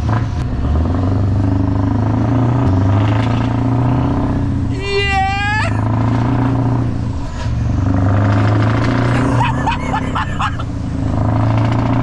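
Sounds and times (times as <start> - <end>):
diesel truck engine pulling: 0.0 - 12.0.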